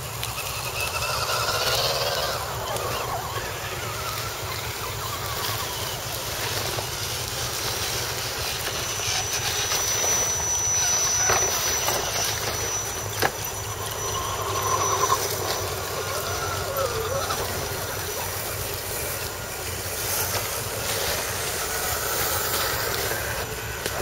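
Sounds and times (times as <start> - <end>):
electric motor high whine: 0.0 - 24.0
tyres crackling on dry leaves: 0.0 - 24.0.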